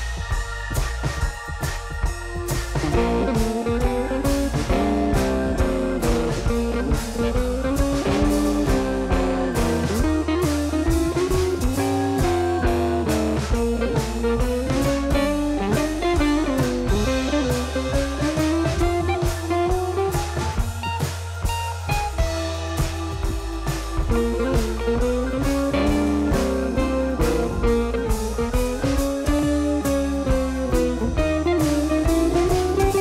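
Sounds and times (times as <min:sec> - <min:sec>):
bass: 0:00.0 - 0:33.0
drum kit beat: 0:00.0 - 0:33.0
guitar melody with bending notes: 0:00.0 - 0:33.0.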